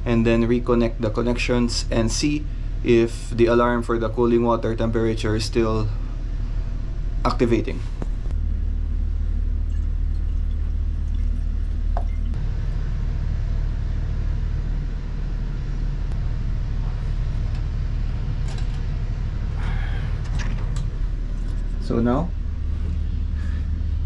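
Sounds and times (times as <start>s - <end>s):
deep rumble of running machinery: 0.0s - 24.0s.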